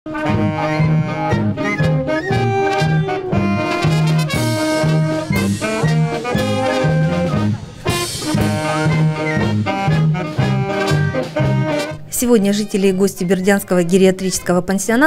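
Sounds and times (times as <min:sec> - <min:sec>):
brass band playing swing: 0:00.1 - 0:14.5.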